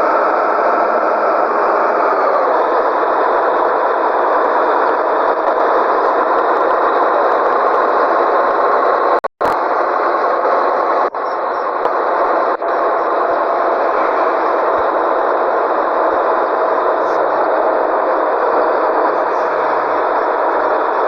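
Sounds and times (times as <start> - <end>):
truck engine and road drone: 0.0 - 21.0.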